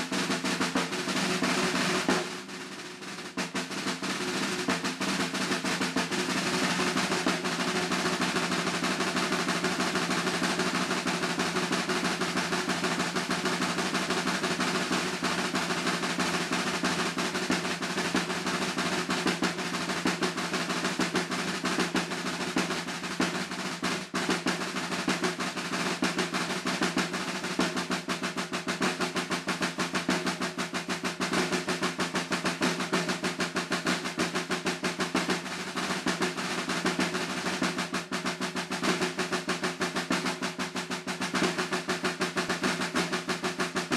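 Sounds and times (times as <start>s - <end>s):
snare drum rolls: 0.0s - 43.9s.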